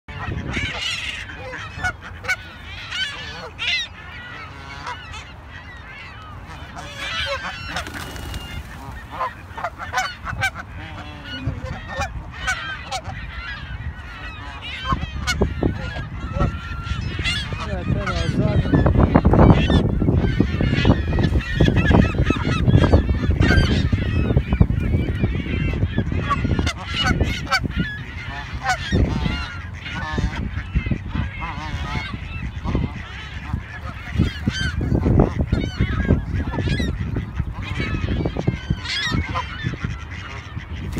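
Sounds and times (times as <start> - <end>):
geese honking: 0.1 - 40.9
waterfowl and gulls calling: 0.1 - 40.9
wind rumble on microphone: 0.1 - 40.9.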